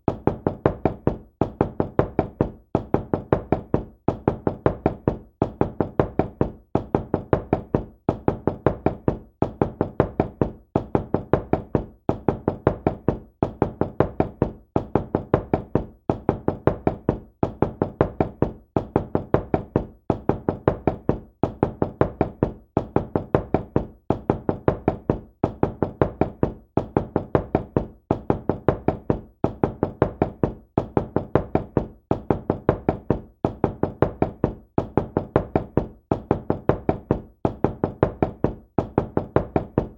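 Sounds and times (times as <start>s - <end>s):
knocking on a door: 0.0s - 39.9s.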